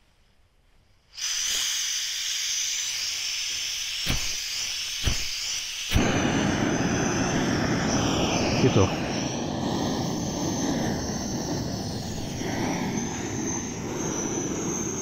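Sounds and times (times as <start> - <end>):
gas hissing from stove: 1.1 - 15.0
stove flame rushing: 1.2 - 15.0.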